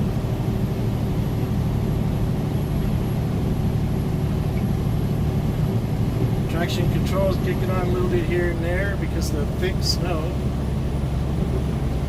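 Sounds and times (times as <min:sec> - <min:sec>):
diesel truck engine droning: 0:00.0 - 0:12.0
tyre and road noise in snow: 0:00.0 - 0:12.0.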